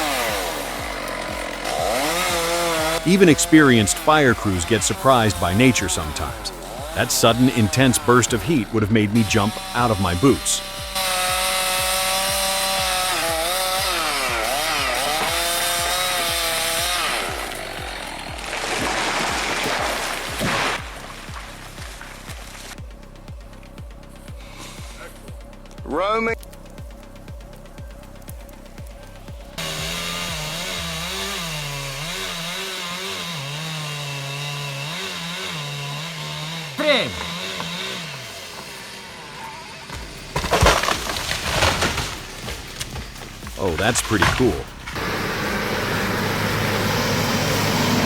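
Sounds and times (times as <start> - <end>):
background music with steady beat: 0.0 - 38.8, 39.9 - 48.0
chainsaw cutting at high revs: 0.0 - 48.0.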